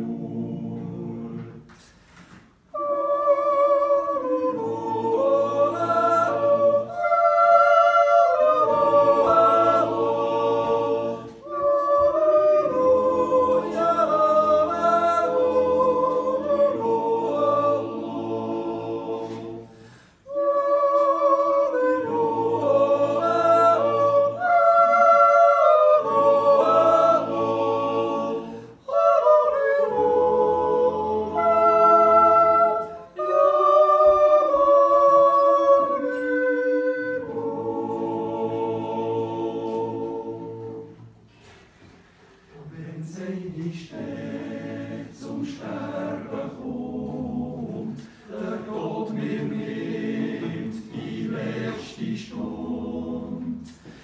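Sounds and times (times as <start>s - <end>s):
men's choir singing unaccompanied: 0.0s - 1.8s, 2.7s - 41.1s, 42.5s - 54.0s.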